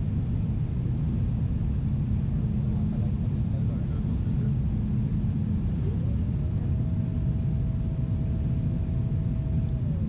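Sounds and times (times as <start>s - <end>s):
airliner cabin rumble: 0.0s - 10.0s
steady hum: 0.0s - 10.0s.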